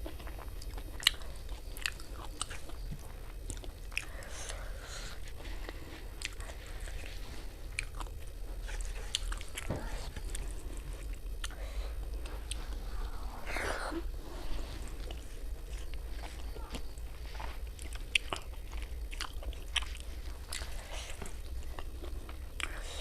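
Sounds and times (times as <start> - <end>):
chewing and crunching food: 0.0 - 23.0
low hum: 0.0 - 23.0.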